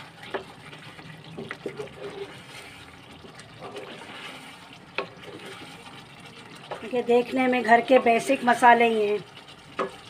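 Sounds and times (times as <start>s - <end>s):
gravy sizzling in a pot: 0.0s - 10.0s.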